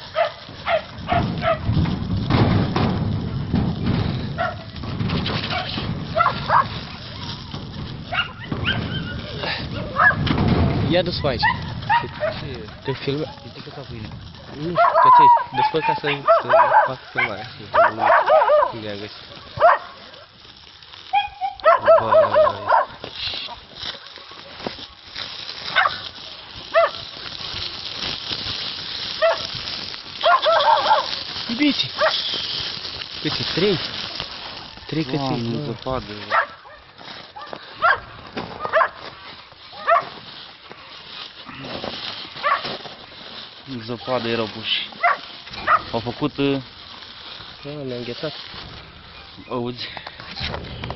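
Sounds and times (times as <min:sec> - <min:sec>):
plastic sack rustling: 0:00.0 - 0:50.9.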